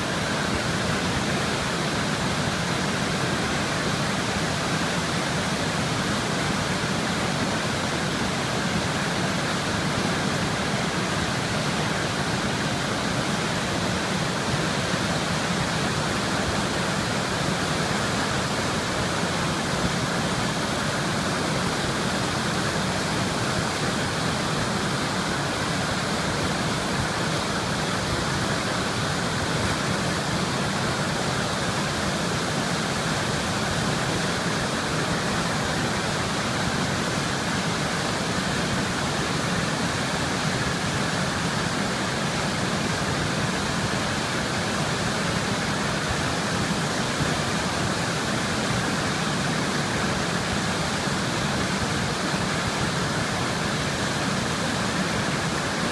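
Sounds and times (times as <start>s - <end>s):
river water flowing: 0.0s - 55.9s.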